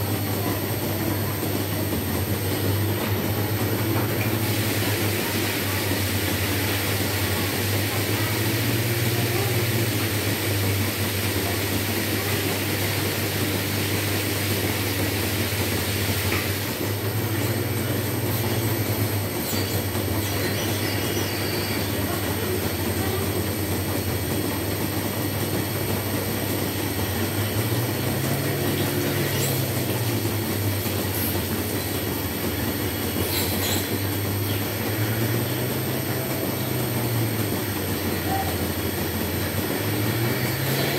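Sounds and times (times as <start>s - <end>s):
milking machinery hum and hiss: 0.0s - 40.9s.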